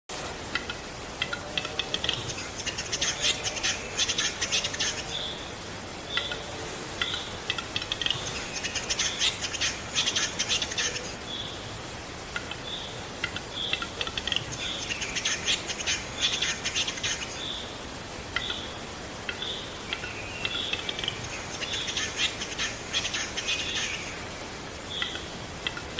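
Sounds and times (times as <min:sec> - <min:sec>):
songbird chattering: 0:00.6 - 0:25.9.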